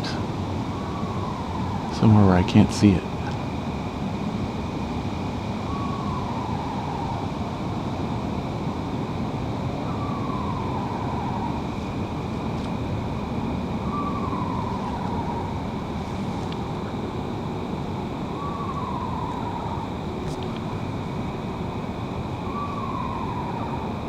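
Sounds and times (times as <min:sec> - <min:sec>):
owl descending whinny call: 0:00.0 - 0:03.4, 0:05.5 - 0:08.2, 0:09.4 - 0:24.0
steady background hiss: 0:00.0 - 0:24.0.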